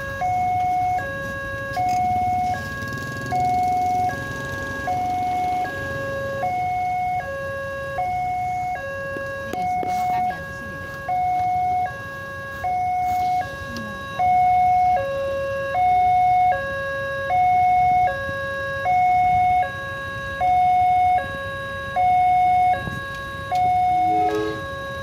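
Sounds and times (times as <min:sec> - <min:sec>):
two-tone level-crossing alarm: 0:00.0 - 0:25.0.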